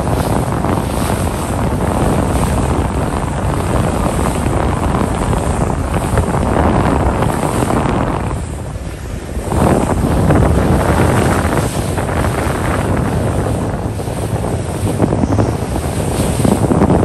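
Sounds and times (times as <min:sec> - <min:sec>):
sea rushing: 0:00.0 - 0:17.0
wind buffeting microphone: 0:00.0 - 0:17.0.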